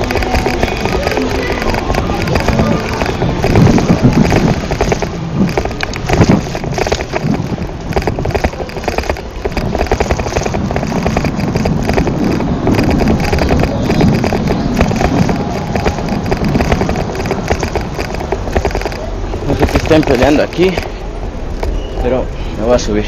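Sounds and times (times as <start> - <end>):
wind on microphone: 0.0 - 21.8
bicycle rattling and clicking: 0.0 - 23.0.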